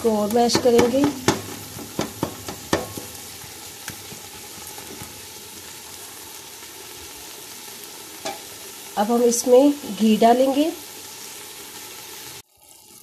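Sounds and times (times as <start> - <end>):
vegetables sizzling in a pot: 0.0 - 13.0.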